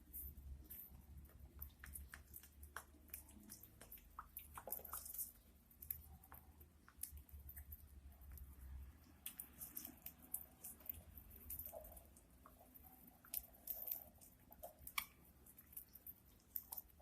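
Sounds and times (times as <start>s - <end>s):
budgies pecking at food: 0.0s - 17.0s.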